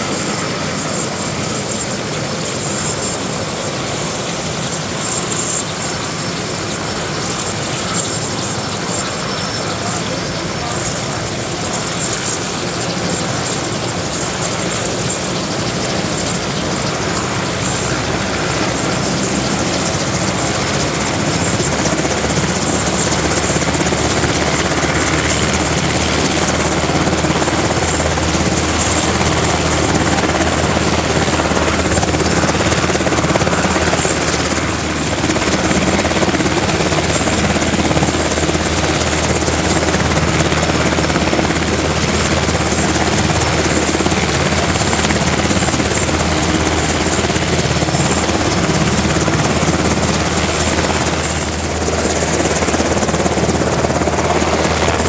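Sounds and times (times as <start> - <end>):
helicopter rotor and turbine whine: 0.0 - 55.0.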